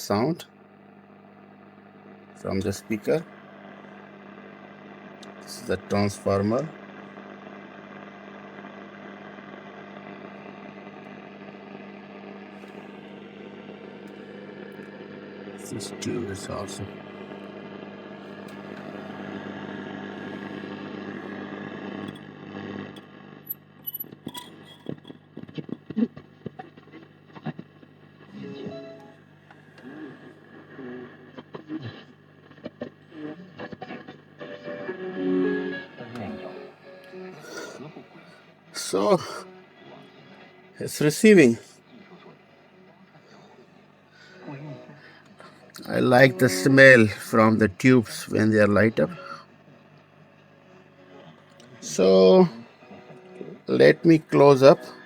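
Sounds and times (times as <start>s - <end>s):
radio hum with static: 0.0s - 55.0s.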